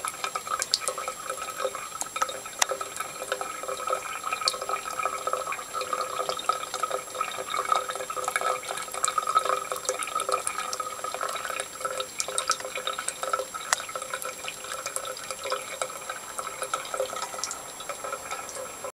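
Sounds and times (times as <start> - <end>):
water running from a tap: 0.0 - 18.9
water splashes and drips: 0.0 - 18.9.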